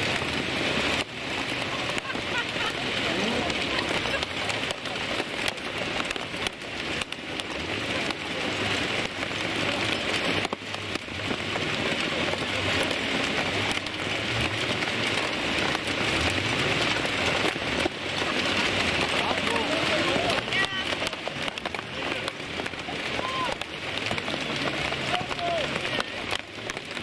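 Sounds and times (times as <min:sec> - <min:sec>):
race car engines passing: 0:00.0 - 0:27.0
rain and hail pelting: 0:00.0 - 0:27.0.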